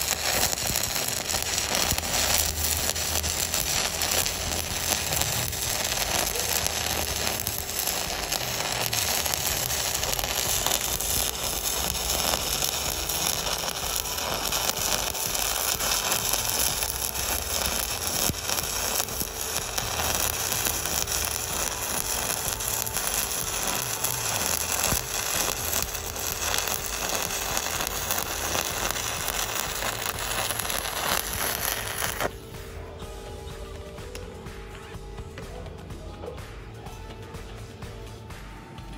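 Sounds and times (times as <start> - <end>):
welding arc crackling: 0.0 - 32.4.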